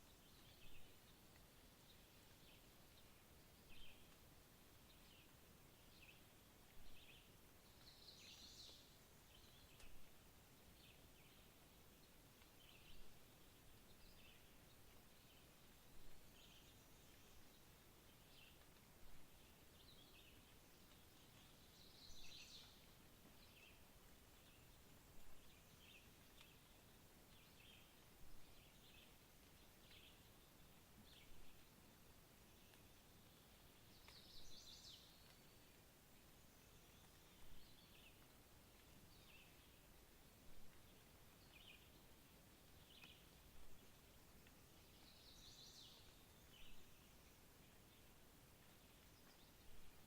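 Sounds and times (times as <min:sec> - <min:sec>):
background hiss: 0:00.0 - 0:50.0.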